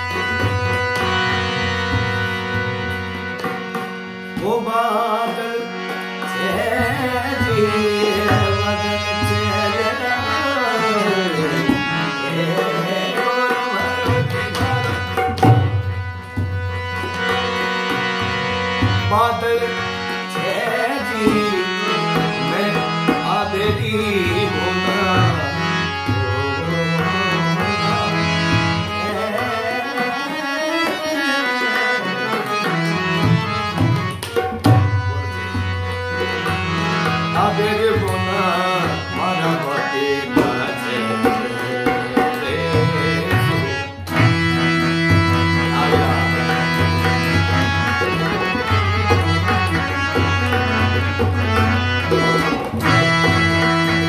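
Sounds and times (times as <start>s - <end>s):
man singing: 0.0s - 2.4s, 4.3s - 15.8s, 17.2s - 54.0s
dholak drum beating: 0.0s - 54.0s
harmonium: 0.0s - 54.0s.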